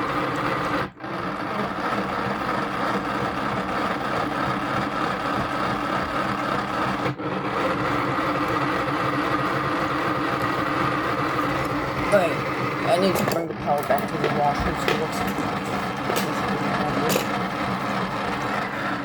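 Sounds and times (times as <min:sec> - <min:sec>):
small electric motor humming: 0:00.0 - 0:19.0.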